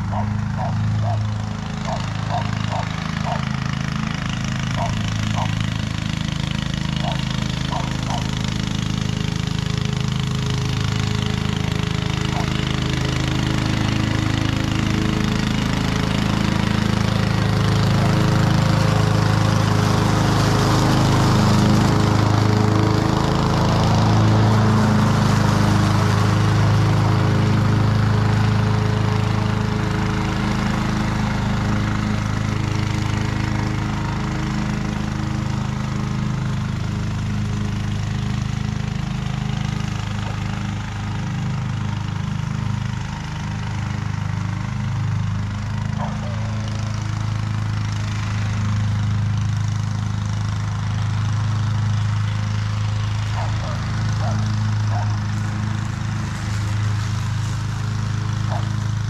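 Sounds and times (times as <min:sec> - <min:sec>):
lawn mower engine cutting grass: 0:00.0 - 0:59.0.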